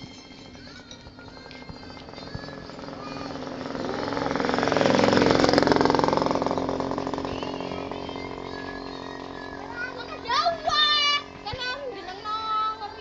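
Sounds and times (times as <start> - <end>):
motor vehicle passing by: 1.7 - 13.0.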